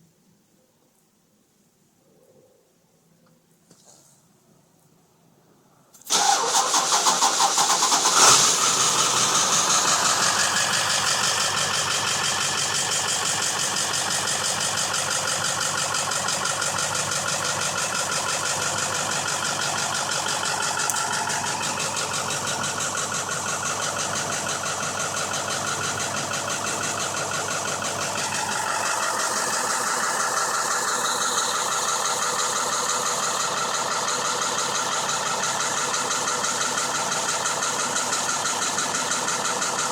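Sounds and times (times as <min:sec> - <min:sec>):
diesel engine cranking and starting: 0:06.0 - 0:39.9
diesel engine idling: 0:06.1 - 0:39.9.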